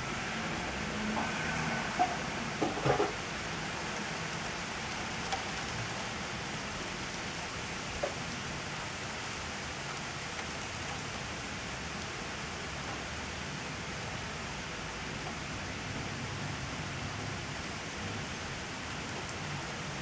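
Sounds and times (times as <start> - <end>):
rain on pavement: 0.0 - 20.0.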